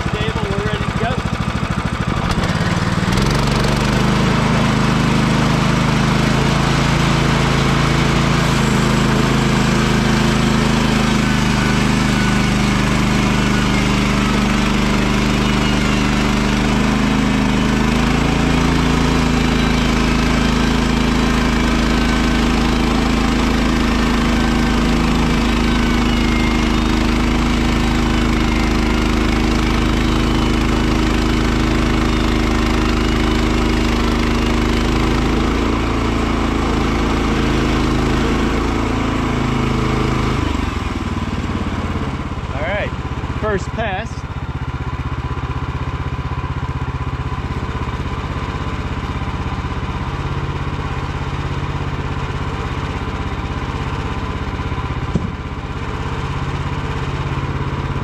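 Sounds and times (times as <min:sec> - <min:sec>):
gasoline engine running: 0:00.0 - 0:58.0.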